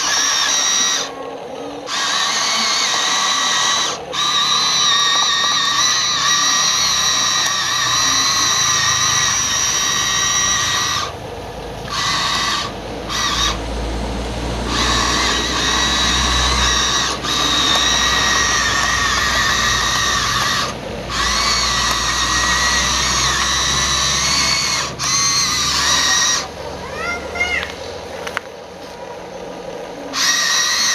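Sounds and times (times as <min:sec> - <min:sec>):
small electric motors whining: 0:00.0 - 0:30.9.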